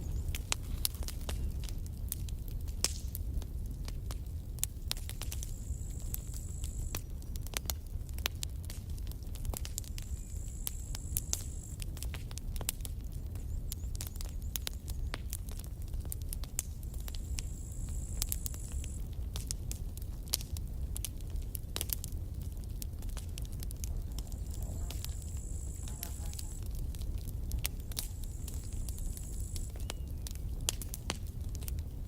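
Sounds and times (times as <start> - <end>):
campfire crackling and popping: 0.0 - 32.0
low fire rumble: 0.0 - 32.0.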